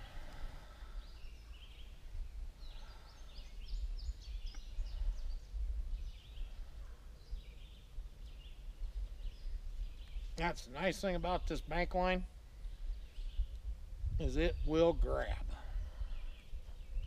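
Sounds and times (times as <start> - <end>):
songbirds chirping: 0.0 - 17.0
steady low rumble: 0.0 - 17.0.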